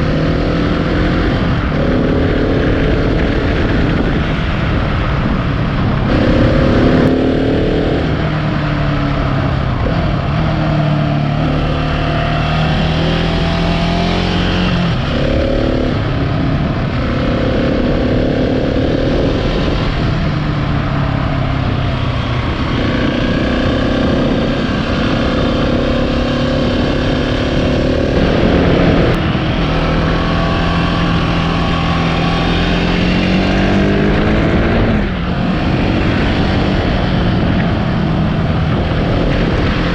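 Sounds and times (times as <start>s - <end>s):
motorcycle engine running: 0.0s - 39.9s
steady wind noise: 0.0s - 39.9s.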